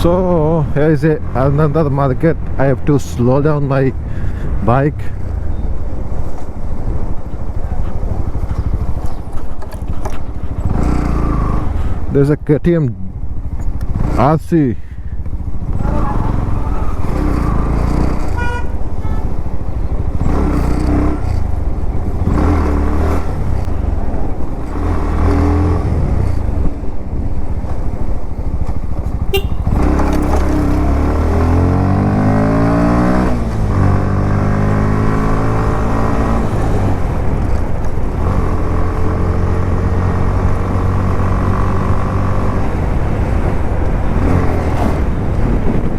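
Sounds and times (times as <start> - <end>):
motorcycle engine accelerating: 5.2 - 12.2, 12.9 - 45.9.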